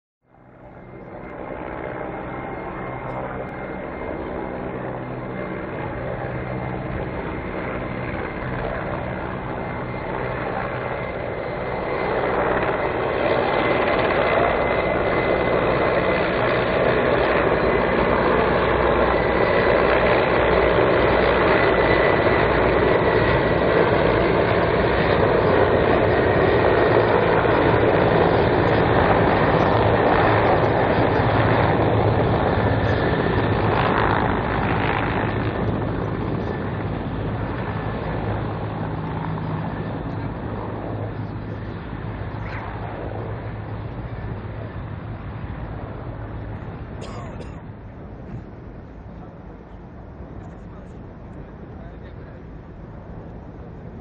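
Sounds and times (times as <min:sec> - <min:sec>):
helicopter rotor noise: 0:00.2 - 0:54.0
high turbine whine: 0:00.3 - 0:54.0.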